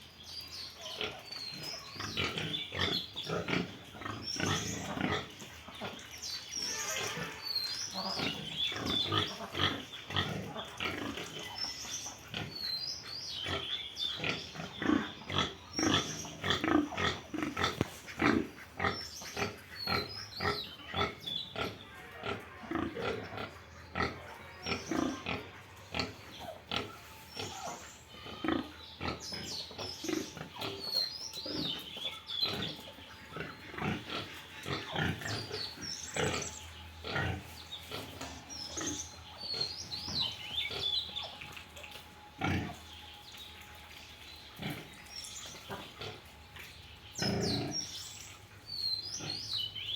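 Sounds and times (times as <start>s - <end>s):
pigs grunting: 0.8s - 41.6s, 42.2s - 43.1s, 44.5s - 49.9s
pigs squealing: 0.8s - 42.9s.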